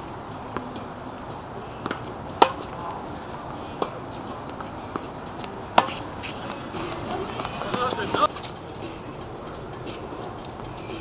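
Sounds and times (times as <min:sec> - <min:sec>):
tennis ball hit by rackets: 0:00.0 - 0:11.0.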